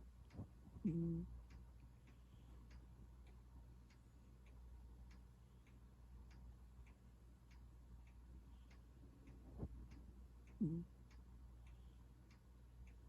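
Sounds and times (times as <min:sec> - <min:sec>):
faint regular ticking: 0:00.0 - 0:13.0
low steady hum: 0:00.0 - 0:13.0.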